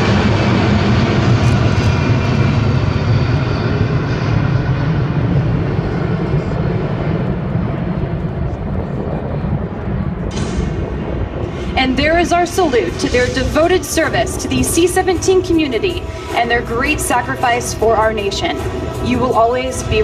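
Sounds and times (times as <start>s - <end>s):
jet aircraft flying: 0.0s - 20.0s.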